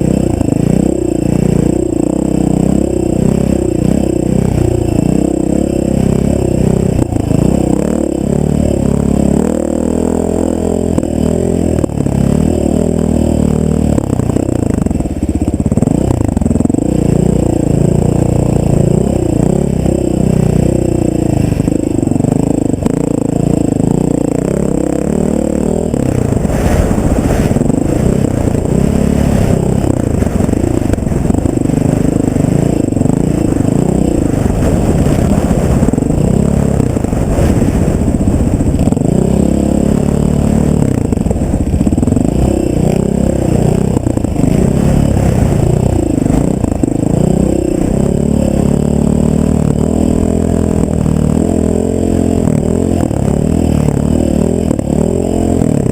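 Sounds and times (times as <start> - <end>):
off-road vehicle engine revving: 0.0 - 55.9
vehicle rattling: 0.0 - 55.9.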